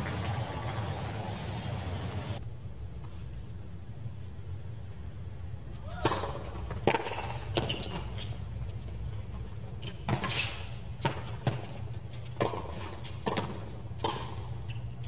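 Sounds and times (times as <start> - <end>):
low stadium hum: 0.0 - 15.0.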